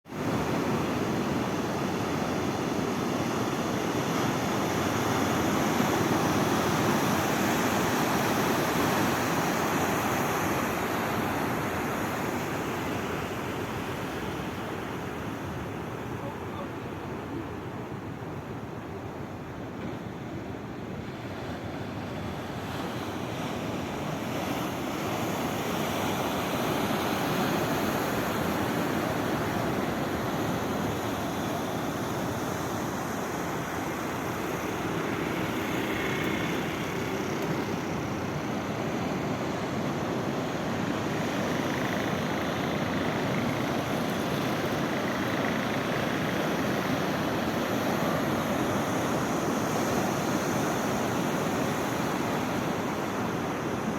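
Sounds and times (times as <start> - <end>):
sea waves surf: 0.1 - 53.9.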